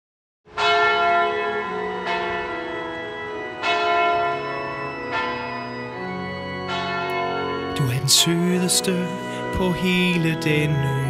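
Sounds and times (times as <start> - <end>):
bell tolling: 0.5 - 11.0.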